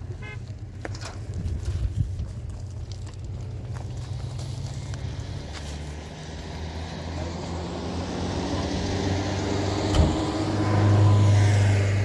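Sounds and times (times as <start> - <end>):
engine running low hum: 0.0 - 12.0.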